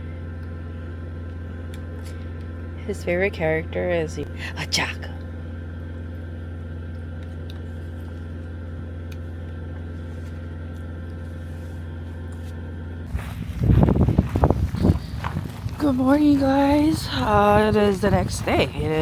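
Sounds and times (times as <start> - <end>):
truck cab mechanical hum: 0.0 - 19.0.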